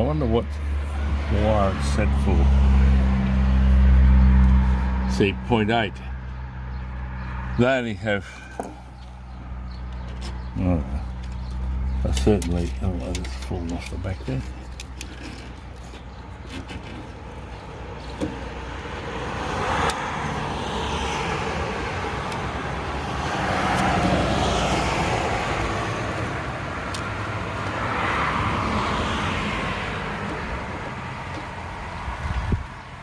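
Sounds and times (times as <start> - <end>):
cars passing: 0.0 - 33.0
steady low traffic rumble: 0.0 - 33.0.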